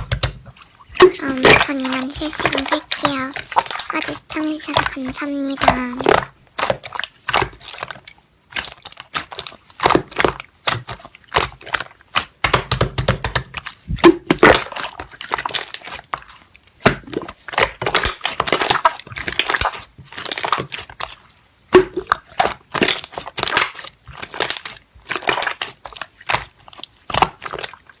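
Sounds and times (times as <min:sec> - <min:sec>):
slime squished by hand: 0:00.0 - 0:28.0.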